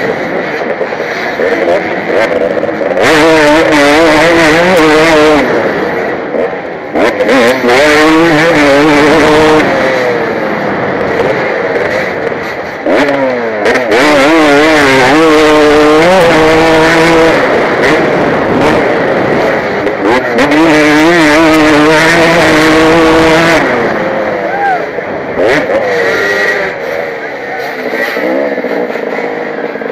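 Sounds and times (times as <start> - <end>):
motocross bike engine revving: 0.0 - 29.9.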